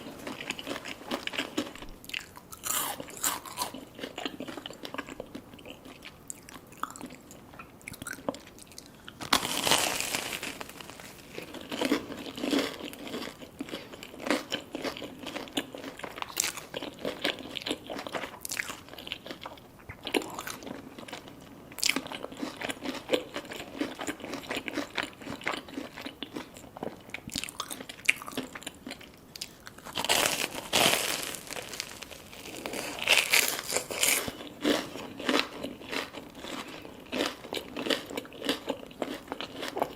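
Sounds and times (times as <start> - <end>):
crunching crispy fried food: 0.0 - 7.3, 7.9 - 39.9.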